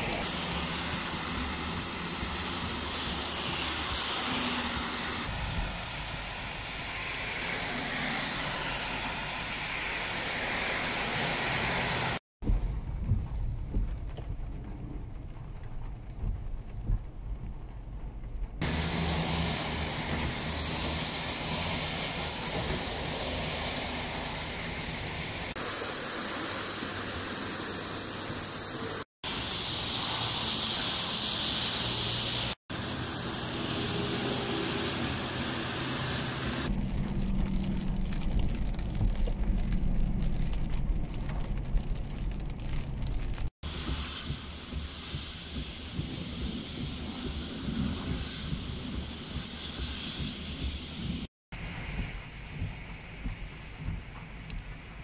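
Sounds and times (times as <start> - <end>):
car driving on wet road: 0.0 - 28.2, 29.4 - 55.0
rain falling into puddles: 0.0 - 55.0.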